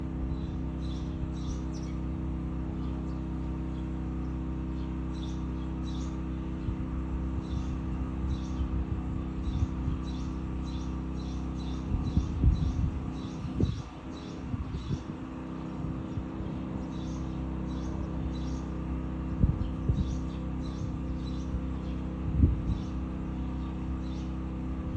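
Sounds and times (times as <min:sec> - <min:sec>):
low mechanical hum: 0:00.0 - 0:24.9
small birds chirping: 0:00.2 - 0:24.9.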